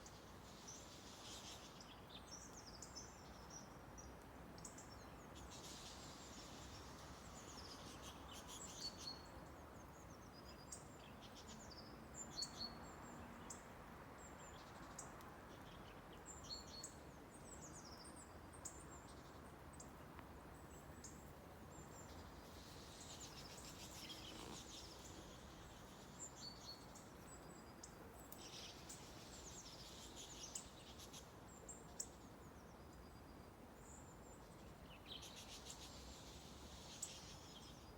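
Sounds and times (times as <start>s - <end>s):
faint steady hiss: 0.0s - 37.9s
small songbirds chirping: 0.0s - 37.9s.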